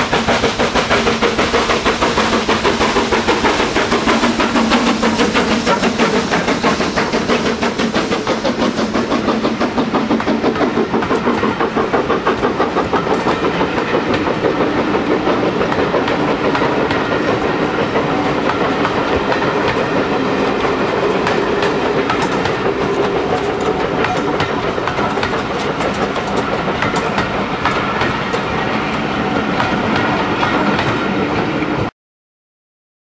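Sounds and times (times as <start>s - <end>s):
train wheels clattering on rails: 0.0s - 31.9s.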